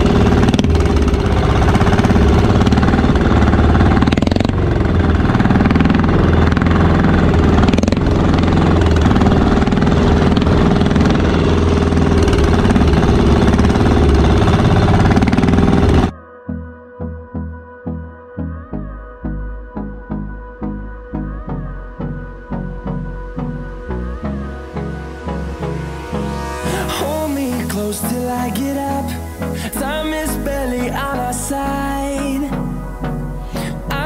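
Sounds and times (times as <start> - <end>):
boat engine running: 0.0 - 16.1, 22.1 - 34.0.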